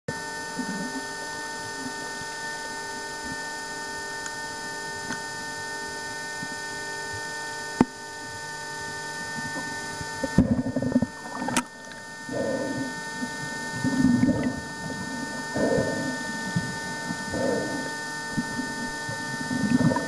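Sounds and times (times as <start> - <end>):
electrical hum: 0.1 - 20.0.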